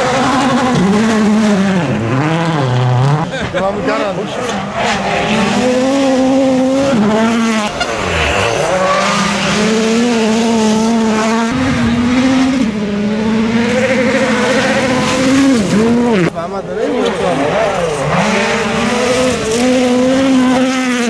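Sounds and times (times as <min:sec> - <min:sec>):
rally car engines running hard: 0:00.0 - 0:21.0.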